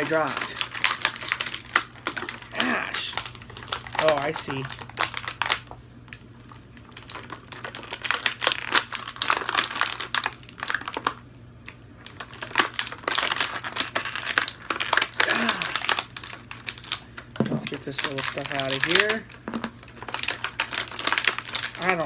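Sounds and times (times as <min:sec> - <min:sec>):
plastic and cardboard packaging crinkling: 0:00.0 - 0:22.0.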